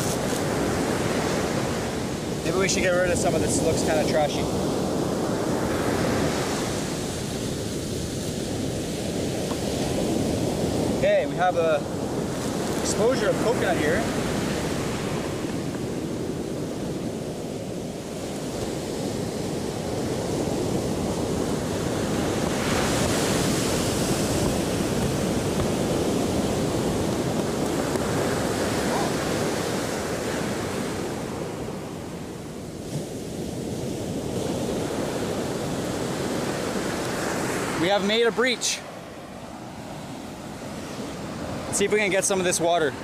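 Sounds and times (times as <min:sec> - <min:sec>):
ocean surf washing ashore: 0:00.0 - 0:43.0
wind buffeting microphone: 0:00.0 - 0:43.0.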